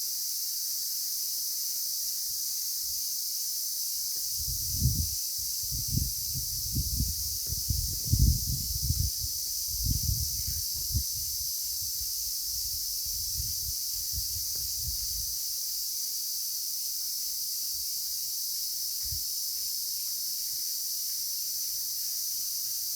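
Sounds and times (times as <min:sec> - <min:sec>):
insect chorus shrilling: 0:00.0 - 0:22.9.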